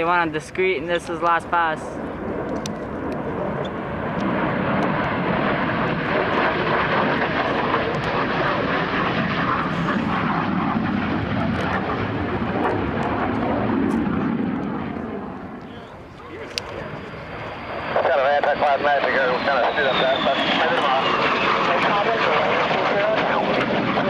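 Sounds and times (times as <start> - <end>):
jet engine passing: 0.0 - 24.0.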